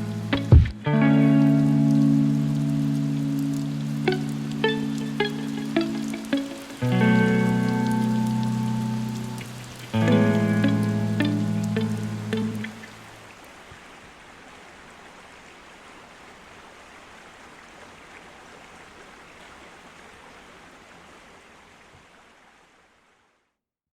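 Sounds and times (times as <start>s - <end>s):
creek water rushing: 0.0s - 23.2s.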